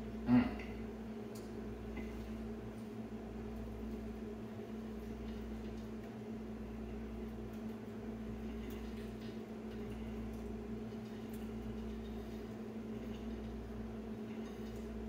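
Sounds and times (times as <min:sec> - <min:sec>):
range hood fan humming: 0:00.0 - 0:15.0.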